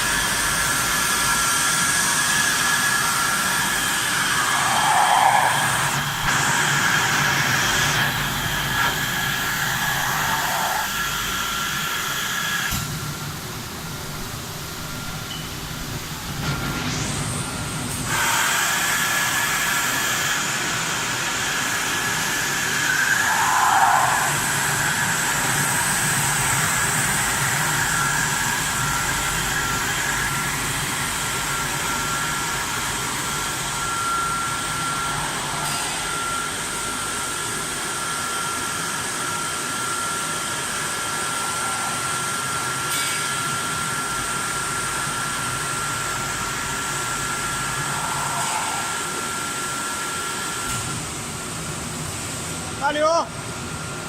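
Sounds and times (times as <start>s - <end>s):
machine whirring: 0.0s - 12.9s, 15.9s - 51.1s
high steady whine: 0.0s - 54.0s.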